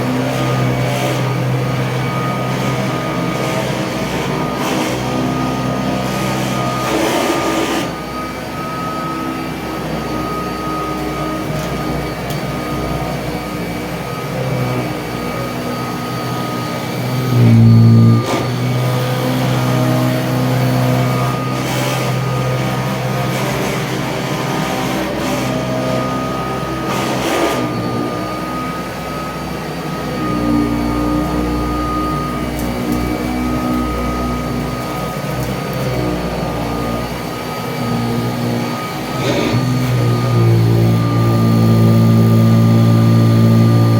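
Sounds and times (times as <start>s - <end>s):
upright vacuum cleaner running: 0.0s - 43.9s.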